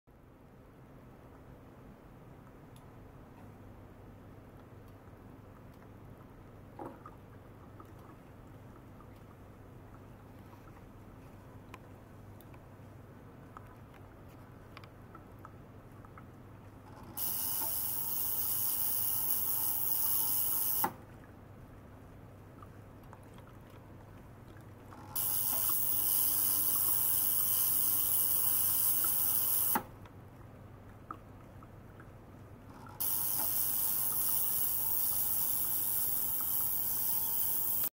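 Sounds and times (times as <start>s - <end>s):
faint pump hum: 0.1s - 37.9s.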